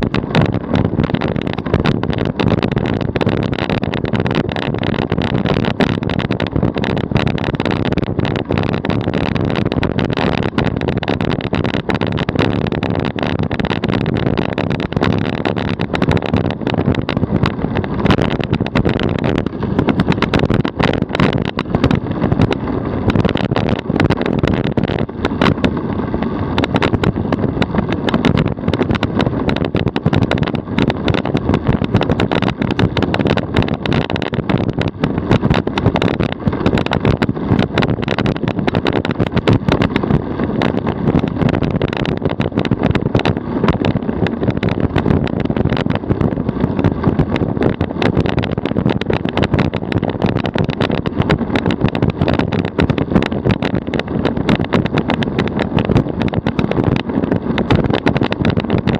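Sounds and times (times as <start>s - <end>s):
body shell rattles: 0.0s - 58.9s
tyre and road noise: 0.0s - 58.9s.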